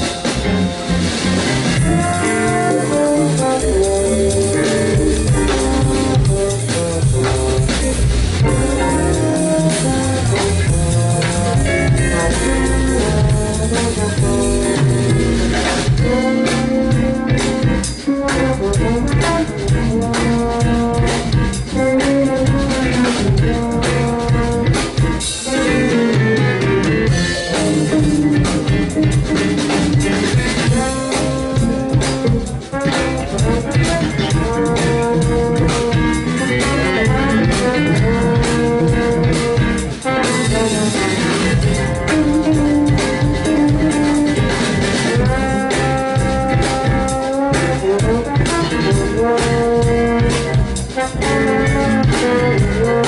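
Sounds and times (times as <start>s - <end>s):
jazz band playing: 0.0s - 53.0s.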